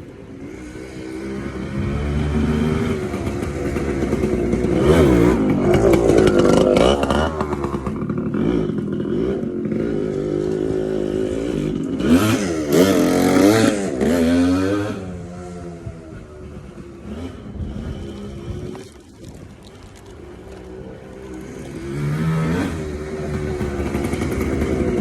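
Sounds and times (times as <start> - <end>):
dirt bike engine revving: 0.3 - 25.0.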